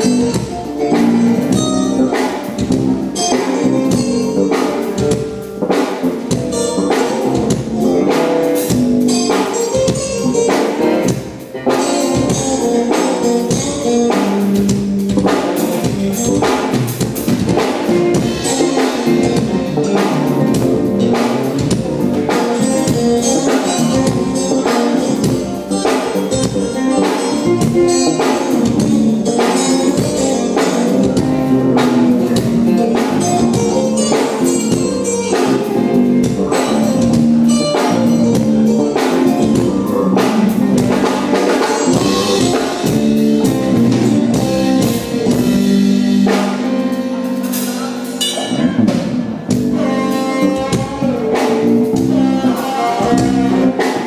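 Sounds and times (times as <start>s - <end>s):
amplified electric guitars: 0.0s - 54.0s
drum kit beat: 0.0s - 54.0s.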